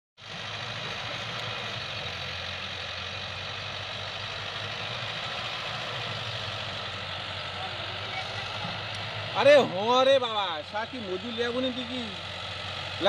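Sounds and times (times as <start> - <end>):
tractor diesel engine under load: 0.2 - 13.0.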